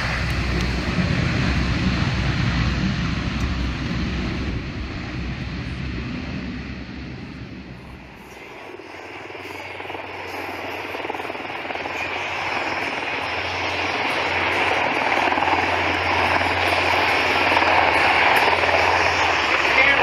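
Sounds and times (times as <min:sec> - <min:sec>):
helicopter rotors: 0:00.0 - 0:20.0
turboprop aircraft drone: 0:00.0 - 0:20.0.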